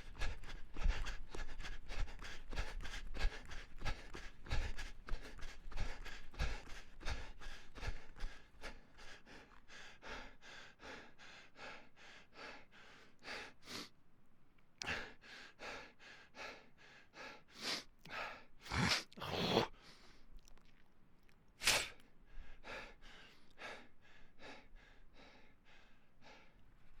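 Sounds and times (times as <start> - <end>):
person panting: 0.0 - 13.9, 14.8 - 20.2, 21.6 - 26.6.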